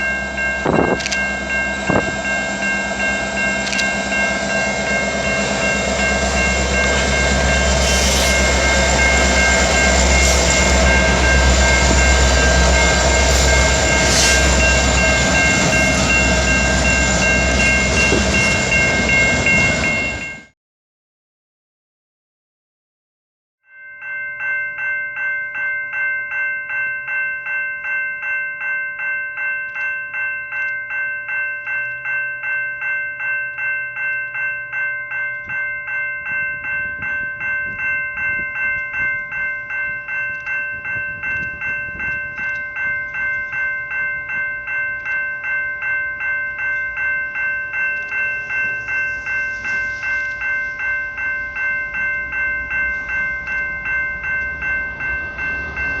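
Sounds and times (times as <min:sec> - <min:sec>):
level crossing bell ringing: 0:00.0 - 0:20.5, 0:23.7 - 0:56.0.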